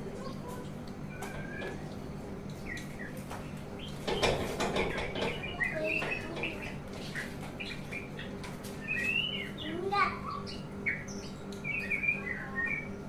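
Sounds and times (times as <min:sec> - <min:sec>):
songbird chirping and singing: 0:00.0 - 0:13.0
steady low hum: 0:00.0 - 0:13.0.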